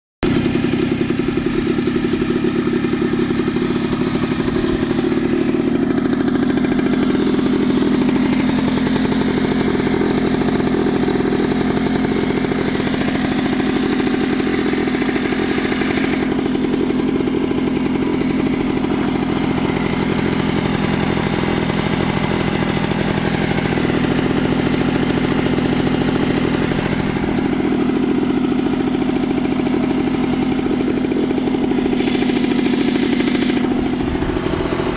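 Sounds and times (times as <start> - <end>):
two-stroke engine idling: 0.2 - 34.9.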